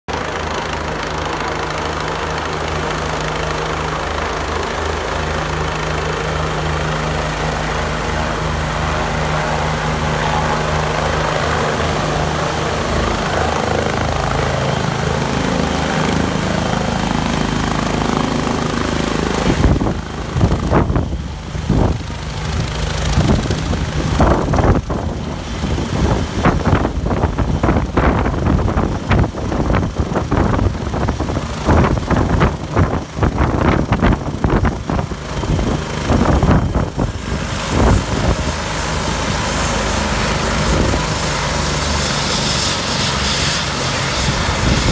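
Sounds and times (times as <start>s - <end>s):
helicopter rotor and turbine: 0.1s - 44.9s.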